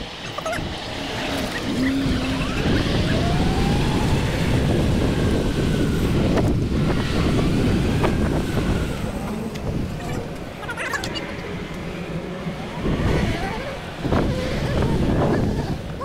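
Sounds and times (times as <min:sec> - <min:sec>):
faint rising whine: 0:00.0 - 0:15.3
wind rushing over microphone: 0:00.0 - 0:16.0.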